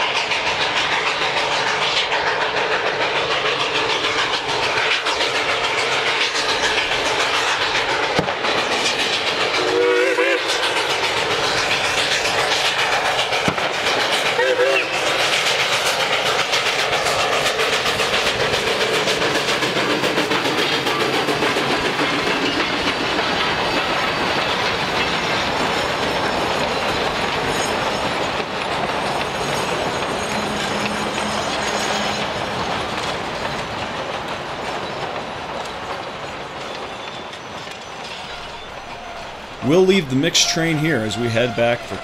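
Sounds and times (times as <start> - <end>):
train wheels clacking on rails: 0.0 - 42.0.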